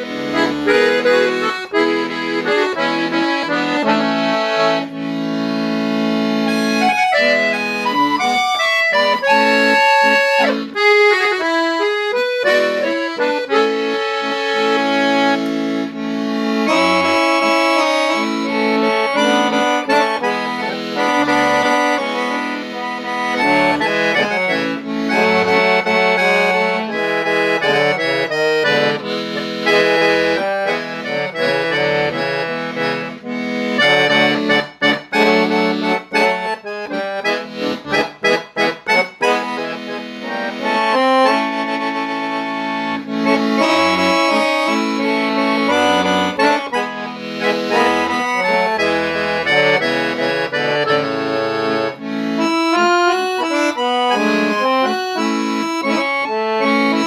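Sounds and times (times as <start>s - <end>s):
accordion playing: 0.0s - 57.0s.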